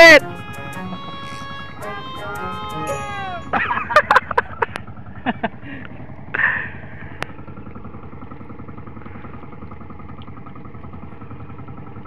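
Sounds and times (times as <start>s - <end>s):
small boat engine idling: 0.0s - 12.0s.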